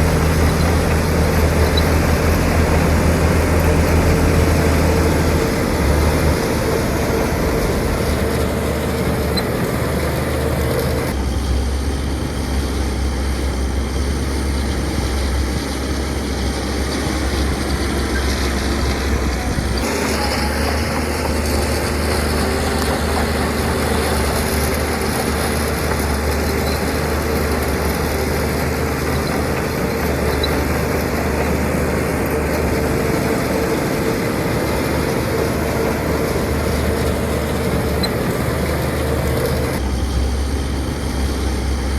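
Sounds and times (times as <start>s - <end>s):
heavy diesel machinery running: 0.0s - 41.9s.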